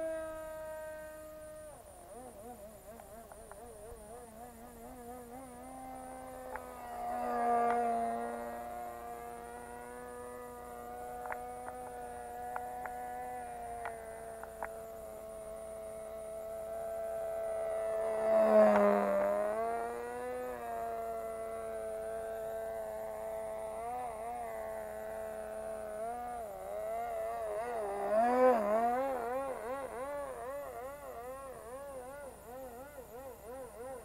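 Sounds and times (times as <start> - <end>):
model aircraft engine buzzing: 0.0 - 34.0.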